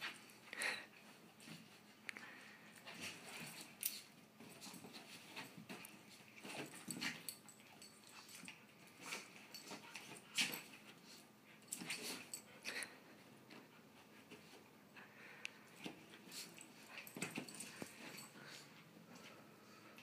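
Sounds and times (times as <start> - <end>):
dogs play-fighting: 0.0 - 20.0.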